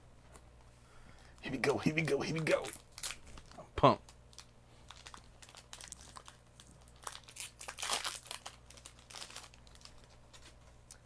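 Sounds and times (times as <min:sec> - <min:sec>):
foil pack crinkling: 0:01.9 - 0:11.0.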